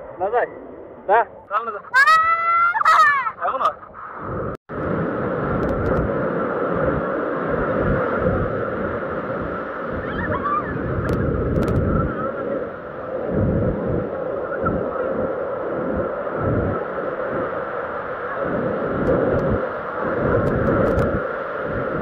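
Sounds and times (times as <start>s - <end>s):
low rumble of surf: 0.0s - 22.0s
surf breaking and washing: 1.1s - 22.0s.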